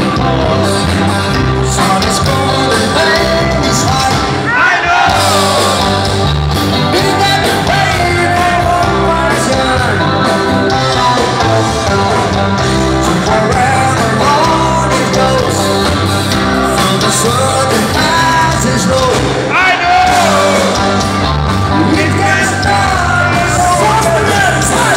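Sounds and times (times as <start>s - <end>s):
loud music with singer: 0.0s - 24.9s.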